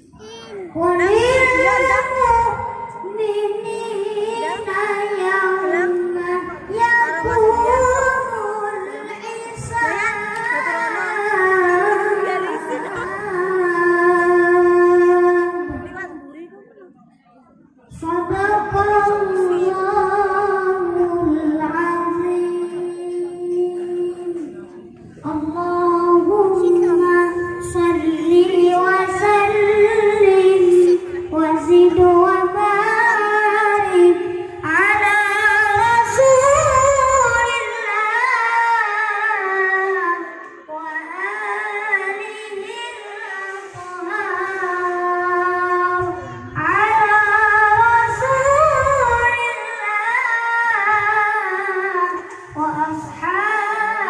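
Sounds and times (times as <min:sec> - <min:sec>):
boy chanting through a pa system: 0:00.0 - 0:54.0.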